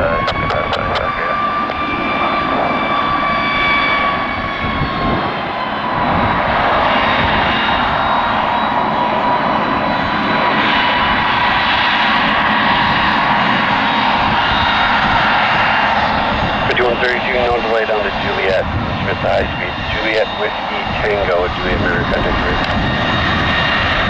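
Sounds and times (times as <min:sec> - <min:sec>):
jet engines whining: 0:00.0 - 0:24.0
jet noise: 0:00.0 - 0:24.0.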